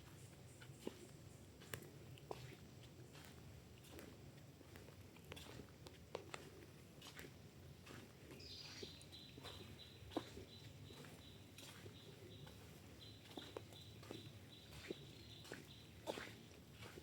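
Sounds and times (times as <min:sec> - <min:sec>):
faint forest ambience: 0:00.0 - 0:17.0.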